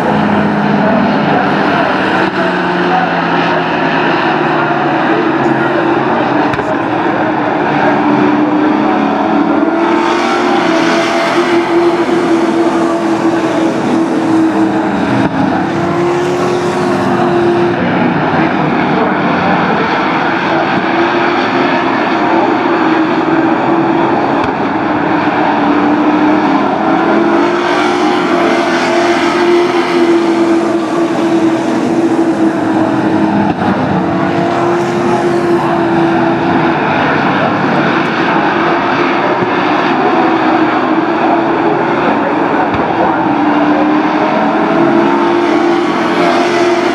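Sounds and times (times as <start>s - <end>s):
racing truck engines at high revs: 0.0s - 46.9s.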